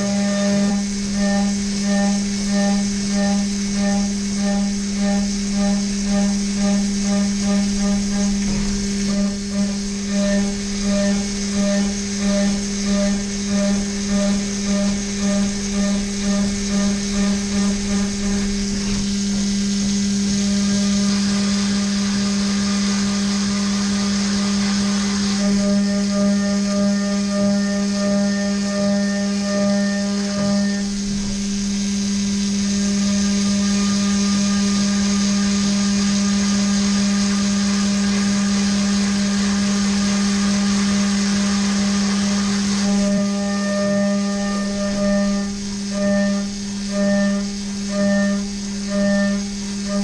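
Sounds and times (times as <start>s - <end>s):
high spindle tone: 0.0s - 50.0s
pulsing cutter whine: 0.0s - 50.0s.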